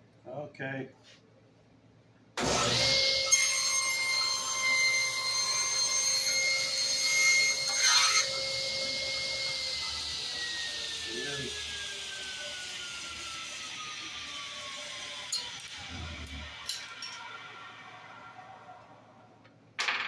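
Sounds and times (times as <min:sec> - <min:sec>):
saw cutting wood: 0:02.4 - 0:18.7
table saw blade whining: 0:02.4 - 0:19.0.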